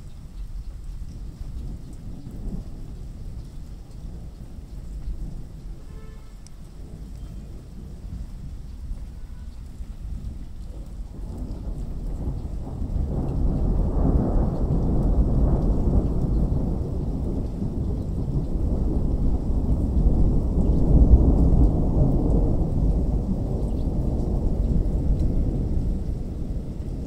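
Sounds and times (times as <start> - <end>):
faint rain: 0.0 - 27.0
thunder rumbling: 0.0 - 27.0.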